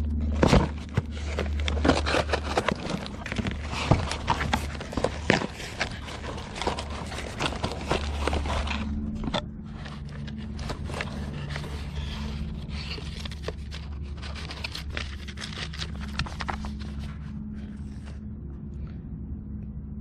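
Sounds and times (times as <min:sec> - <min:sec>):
packaging crackling and scraping: 0:00.0 - 0:18.2
low steady hum: 0:00.0 - 0:20.0.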